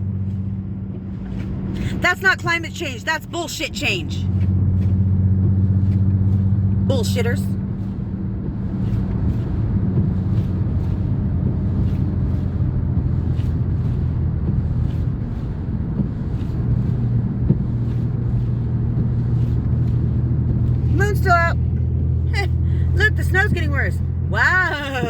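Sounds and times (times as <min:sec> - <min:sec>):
car engine hum: 0:00.0 - 0:25.0
road and tyre noise: 0:00.0 - 0:25.0.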